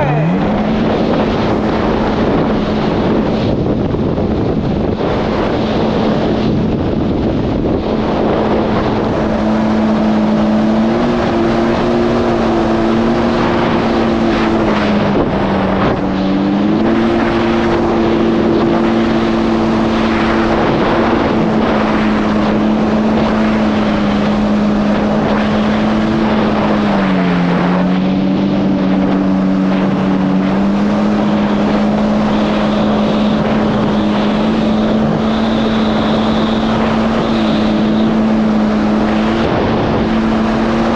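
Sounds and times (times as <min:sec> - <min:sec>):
jet ski engine running hard: 0:00.0 - 0:40.9
rushing wind and water: 0:00.0 - 0:40.9.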